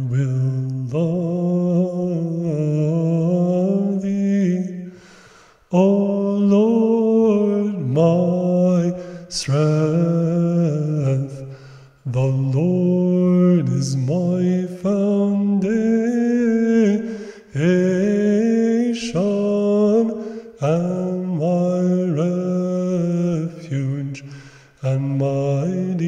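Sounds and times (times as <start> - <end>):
man chanting a hymn: 0.0 - 26.0.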